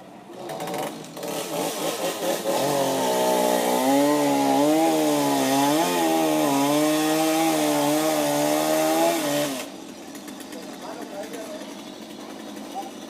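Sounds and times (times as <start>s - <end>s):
chainsaw cutting wood: 0.3s - 13.0s.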